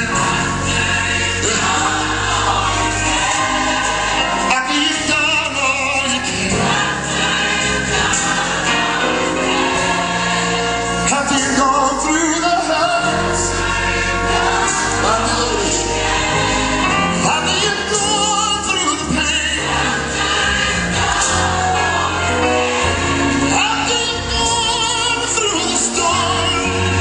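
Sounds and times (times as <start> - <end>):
choir singing gospel song: 0.0 - 27.0.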